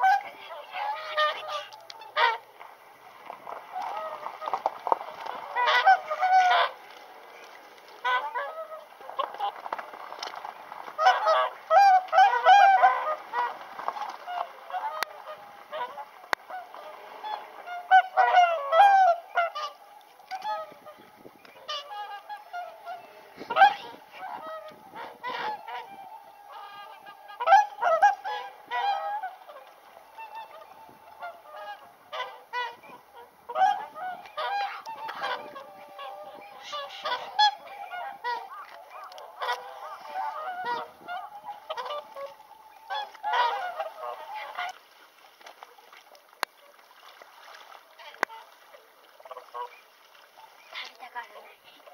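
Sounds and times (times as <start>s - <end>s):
flock of swans calling: 0.0s - 51.9s.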